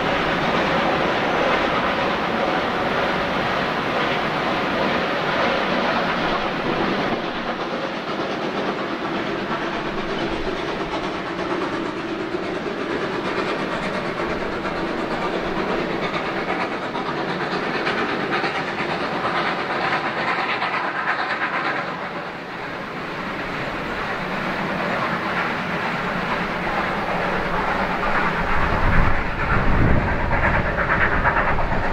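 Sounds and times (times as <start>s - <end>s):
steam locomotive exhaust: 0.0s - 31.9s
train wheels on rails: 0.0s - 31.9s.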